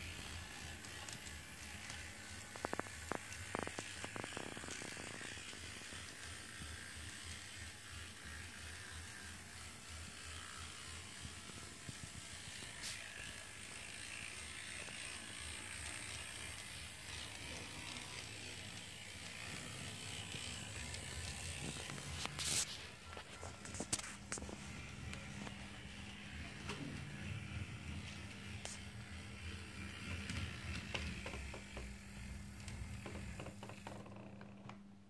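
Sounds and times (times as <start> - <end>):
model train motor whirring: 0.0 - 34.3.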